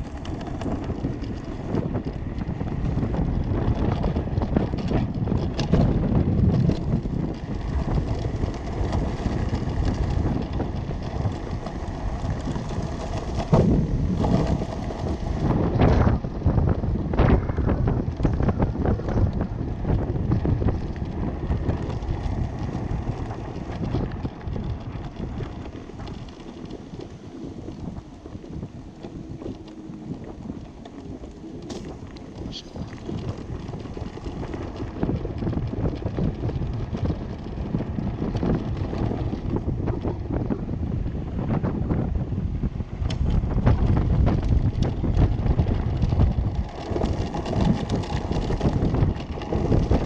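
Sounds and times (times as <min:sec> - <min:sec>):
go-kart tyres rolling on pavement: 0:00.0 - 0:50.0
wind buffeting microphone: 0:00.0 - 0:50.0.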